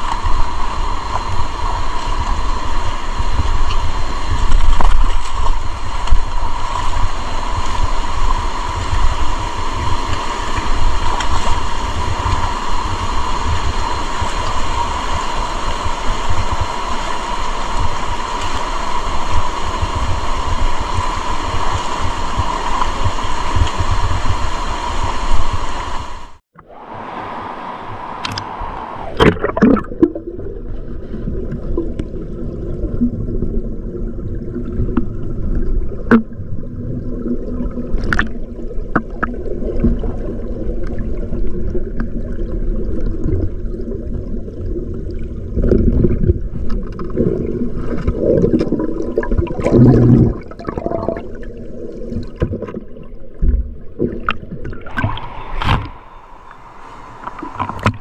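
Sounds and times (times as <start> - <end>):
muffled water gurgling and sloshing: 0.0 - 58.0.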